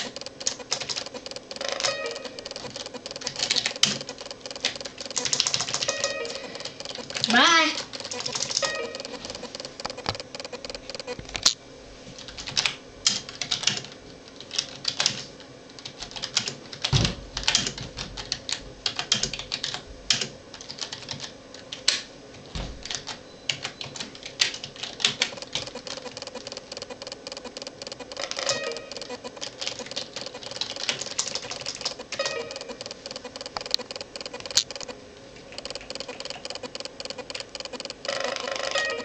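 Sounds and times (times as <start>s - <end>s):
keyboard typing: 0.0s - 11.6s, 12.2s - 22.0s, 22.8s - 39.0s.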